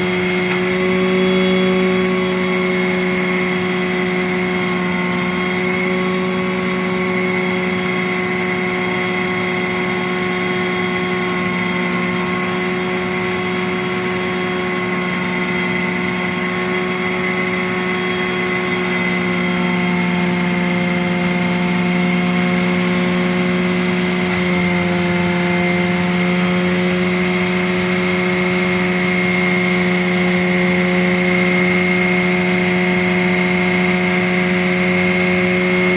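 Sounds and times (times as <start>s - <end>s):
engine running steadily: 0.0s - 35.9s.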